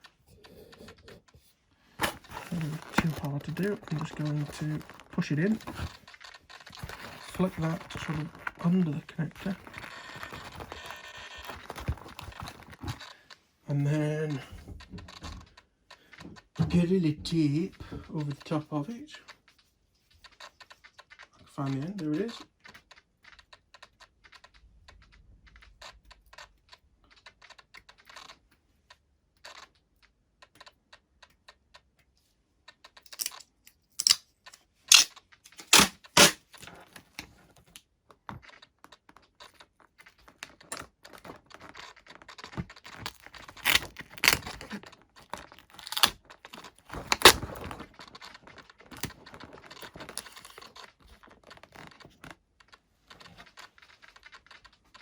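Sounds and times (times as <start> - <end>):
tape clicking and crackling: 0.0 - 55.0.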